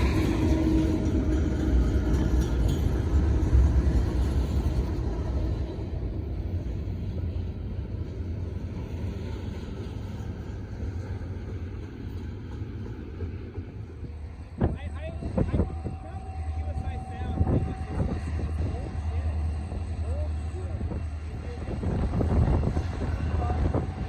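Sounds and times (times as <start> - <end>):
freight train rumbling by: 0.0 - 24.0.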